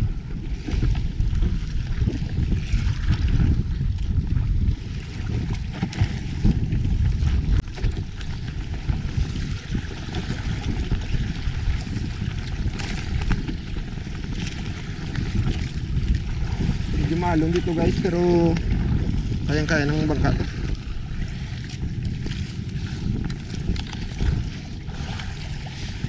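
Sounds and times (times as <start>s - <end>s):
waves slapping boat hull: 0.0s - 26.0s
wind buffeting microphone: 0.0s - 26.0s.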